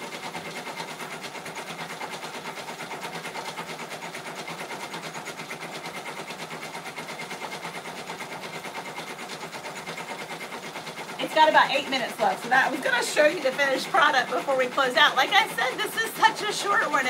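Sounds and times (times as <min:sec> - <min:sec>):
embroidery machine stitching: 0:00.0 - 0:17.0.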